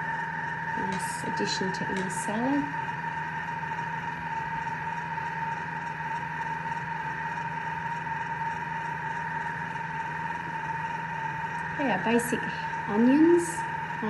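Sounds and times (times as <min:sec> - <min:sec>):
kitchen appliance motor humming: 0:00.0 - 0:14.0.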